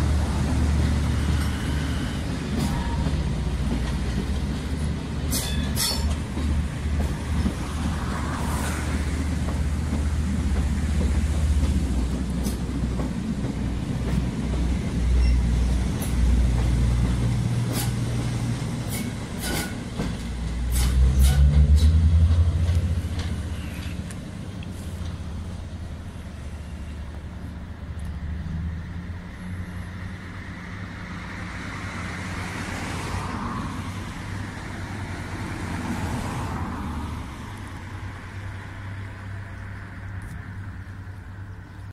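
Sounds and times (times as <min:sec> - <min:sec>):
train rumbling past: 0:00.0 - 0:41.9.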